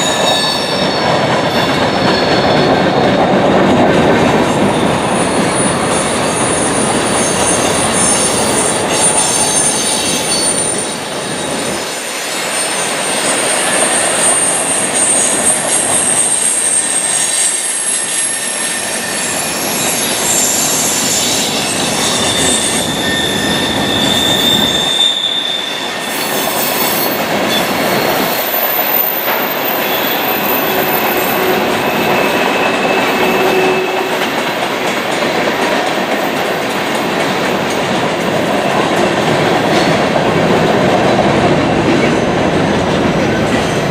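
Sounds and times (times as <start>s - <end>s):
train wheels squealing: 0.0s - 3.3s, 4.4s - 36.8s
train cars rumbling on rails: 0.0s - 43.9s.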